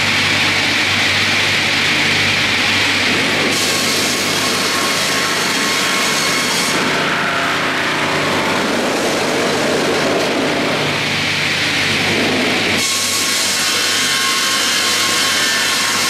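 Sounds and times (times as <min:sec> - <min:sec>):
circular sawmill cutting log: 0:00.0 - 0:16.0.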